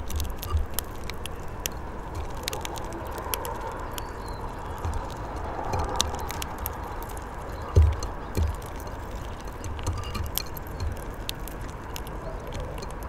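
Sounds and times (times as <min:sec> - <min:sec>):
birds cracking seeds: 0:00.0 - 0:13.0
low background rumble: 0:00.0 - 0:13.0.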